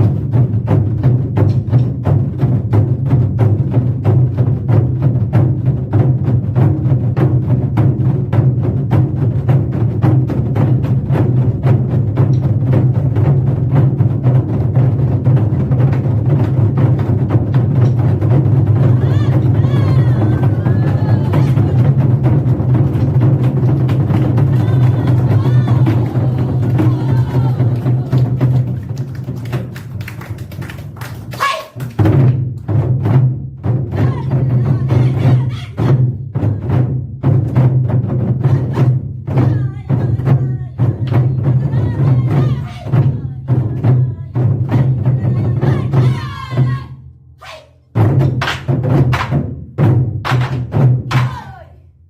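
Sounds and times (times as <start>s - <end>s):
rapid drum roll: 0.0s - 47.0s, 48.0s - 51.6s.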